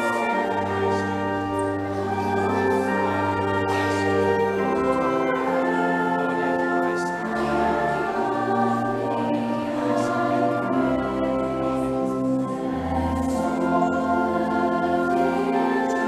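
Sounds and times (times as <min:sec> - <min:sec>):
organ chords: 0:00.0 - 0:16.0
voices singing a hymn: 0:00.0 - 0:16.0.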